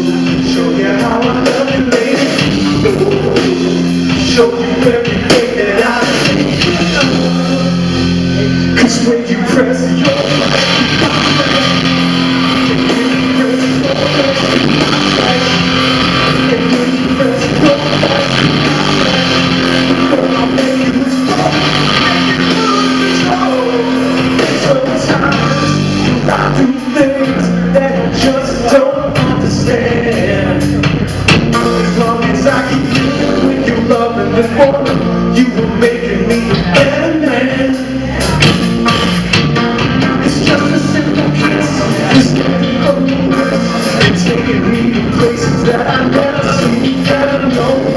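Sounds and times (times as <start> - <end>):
live band playing slow song: 0.0 - 47.9
person singing: 0.0 - 47.9.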